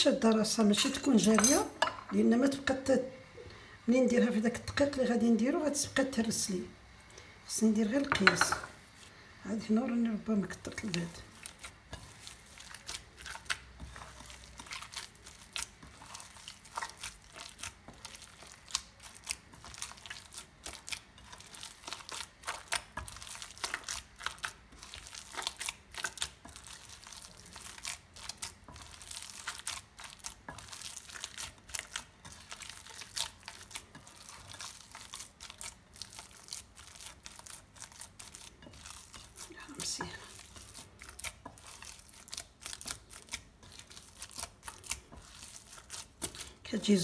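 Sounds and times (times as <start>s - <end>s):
hand squishing wet mixture: 8.7s - 47.0s.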